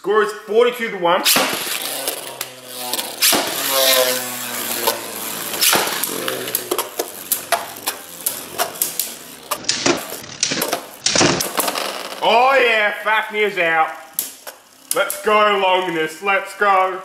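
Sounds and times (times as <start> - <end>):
spinning tops launching: 1.2 - 15.6
spinning tops clicking together: 1.3 - 12.8, 13.4 - 15.9.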